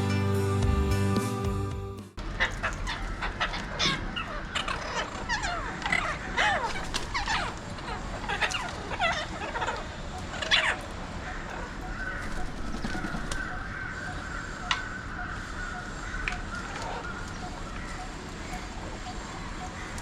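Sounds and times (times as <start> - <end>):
parakeets screeching: 2.2 - 20.0.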